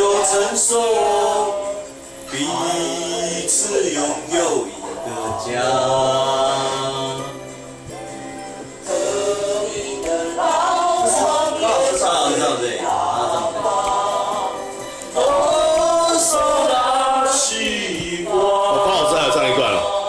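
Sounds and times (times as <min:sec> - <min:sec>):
pop song with sung vocals: 0:00.0 - 0:20.0.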